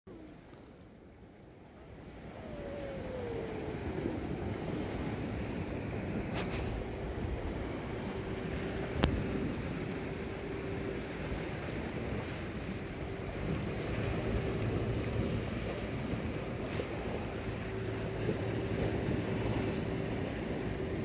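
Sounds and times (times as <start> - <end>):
surf on rocky shore: 1.4 - 21.0
wind buffeting microphone: 2.0 - 21.0.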